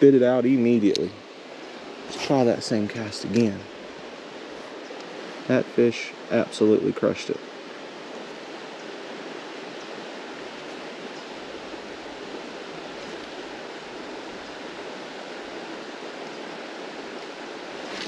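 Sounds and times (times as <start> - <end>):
flowing creek water: 0.0 - 18.0.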